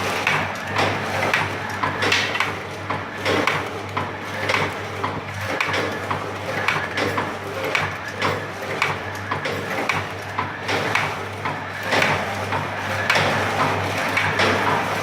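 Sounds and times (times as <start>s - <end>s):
packing machine clacks: 0.0s - 15.0s.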